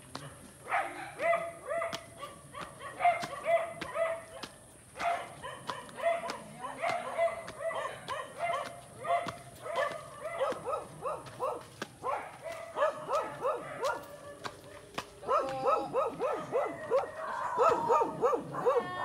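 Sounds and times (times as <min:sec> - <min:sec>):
dog barking: 0:00.6 - 0:19.0.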